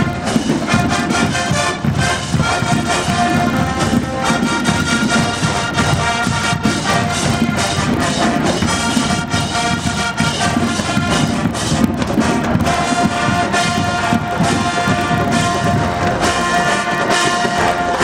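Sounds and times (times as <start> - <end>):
marching band playing loudly: 0.0 - 18.0.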